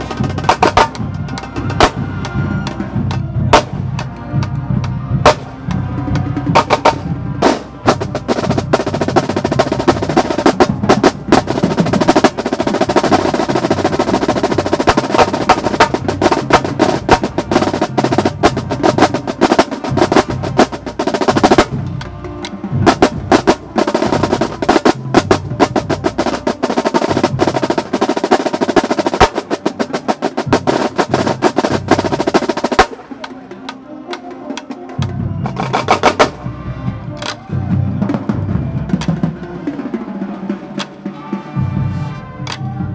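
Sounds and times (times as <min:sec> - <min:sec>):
marching drumline playing: 0:00.0 - 0:33.3, 0:34.1 - 0:36.6, 0:37.2 - 0:37.4, 0:38.0 - 0:41.1.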